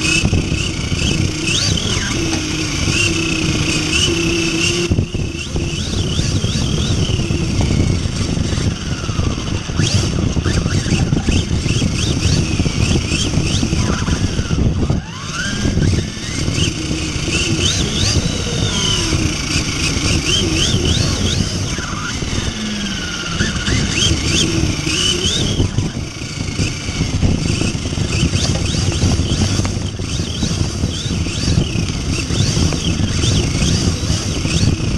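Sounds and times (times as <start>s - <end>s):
rc truck motor revving: 0.0s - 34.9s.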